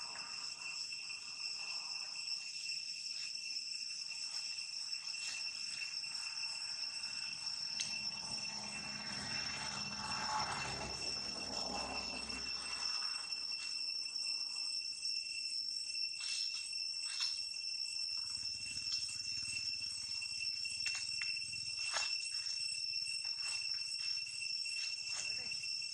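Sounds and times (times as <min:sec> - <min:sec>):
high-pitched insect drone: 0:00.0 - 0:25.9.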